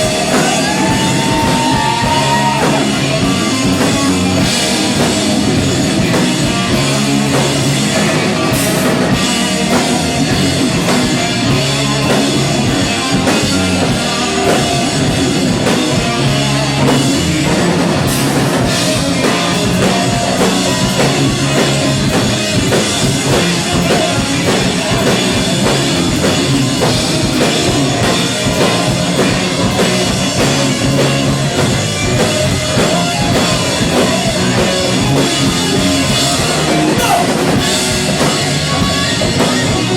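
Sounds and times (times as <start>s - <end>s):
distorted electric guitar: 0.0s - 39.9s
drum kit: 0.0s - 39.9s
live rock band playing: 0.0s - 39.9s.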